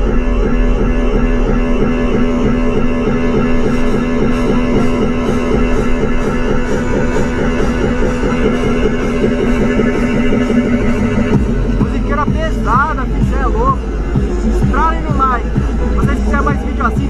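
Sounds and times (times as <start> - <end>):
rock music on car stereo: 0.0 - 17.0.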